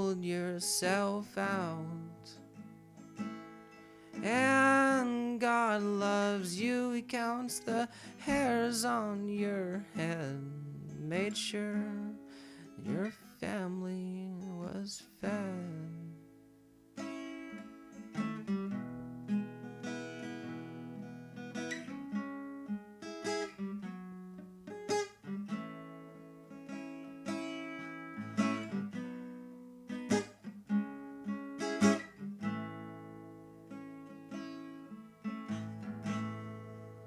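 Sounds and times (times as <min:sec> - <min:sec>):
acoustic guitar strummed and picked: 0:00.0 - 0:37.0.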